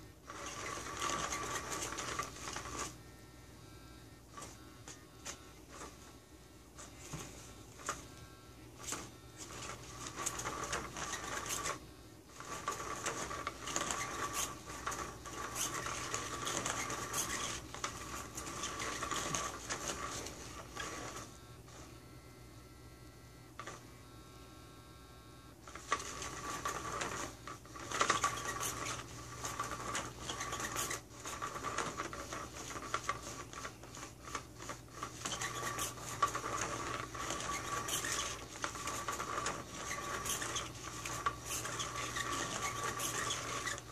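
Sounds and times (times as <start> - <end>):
cat toy motor whirring: 0.0 - 3.3, 4.1 - 24.0, 25.6 - 43.9.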